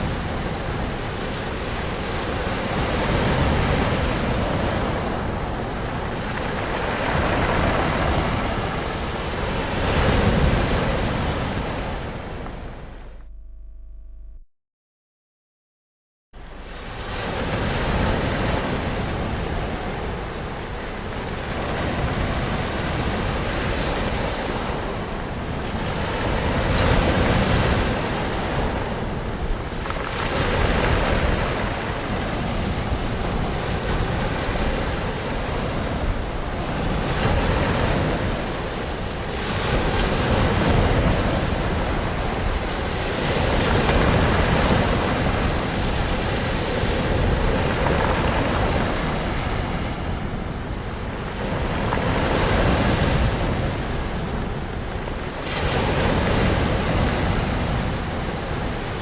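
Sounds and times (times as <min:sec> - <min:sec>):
ocean waves breaking: 0:00.0 - 0:13.2, 0:16.4 - 0:59.0.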